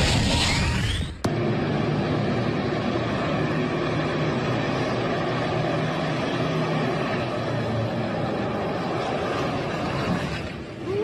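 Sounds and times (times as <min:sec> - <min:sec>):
rushing noise: 0:00.0 - 0:11.0
vehicle engine running: 0:01.2 - 0:11.0.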